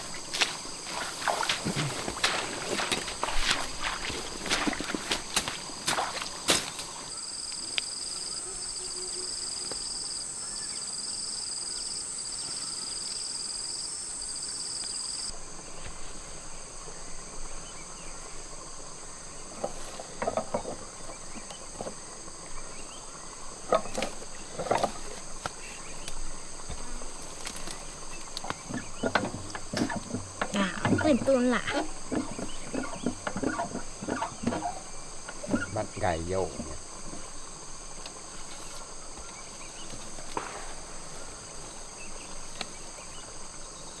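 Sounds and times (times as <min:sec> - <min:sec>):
insects buzzing and whining: 0:00.0 - 0:44.0
outdoor background noise: 0:00.0 - 0:44.0.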